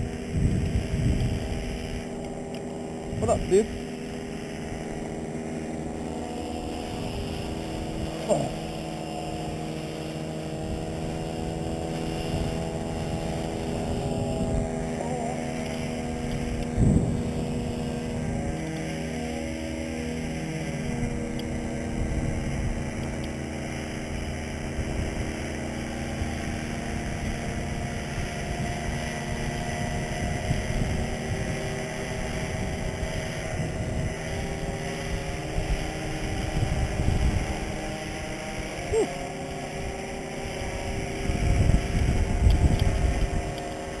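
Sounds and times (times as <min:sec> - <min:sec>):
paramotor engine idling: 0:00.0 - 0:44.0
wind noise on microphone: 0:00.0 - 0:44.0.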